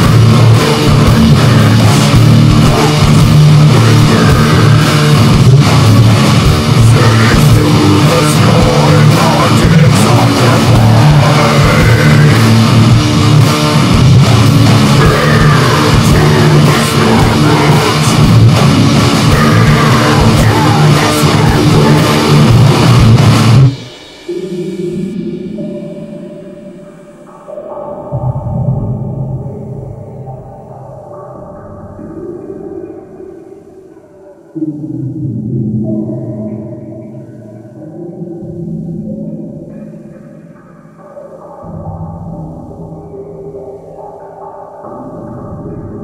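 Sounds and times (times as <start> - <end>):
heavy rock music: 0.0 - 46.0
sustained tone: 0.0 - 46.0.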